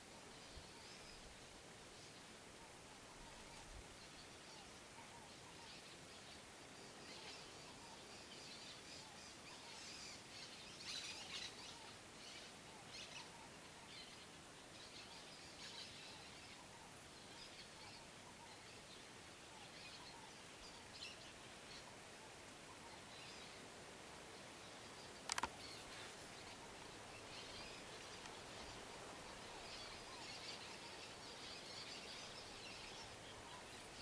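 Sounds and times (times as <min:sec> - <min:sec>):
small birds chirping: 0:00.2 - 0:34.0.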